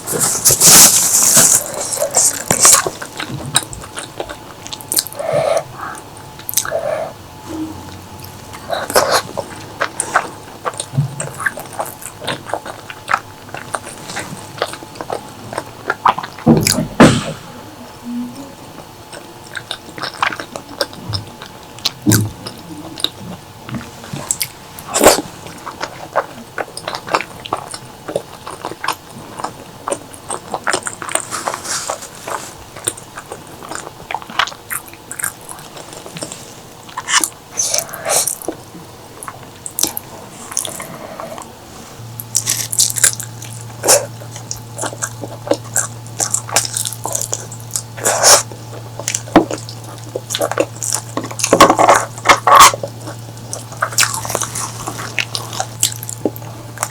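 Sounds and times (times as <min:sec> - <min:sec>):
wet chewing and lip smacking: 0:00.2 - 0:06.9, 0:07.9 - 0:16.9, 0:18.8 - 0:41.5, 0:42.1 - 0:56.9.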